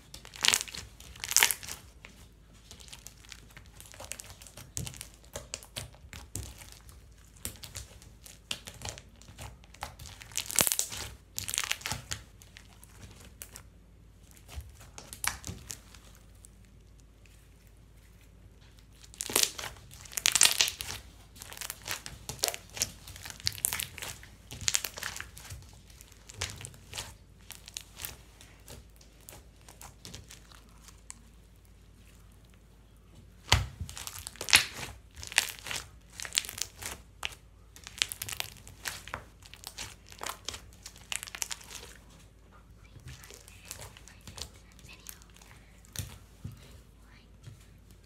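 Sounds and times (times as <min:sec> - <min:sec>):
crinkling and crumpling: 0:00.0 - 0:48.0.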